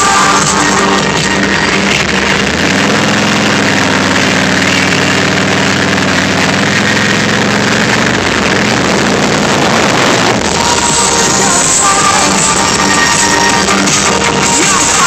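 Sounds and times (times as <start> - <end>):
motorcycle engine running: 0.1 - 15.0.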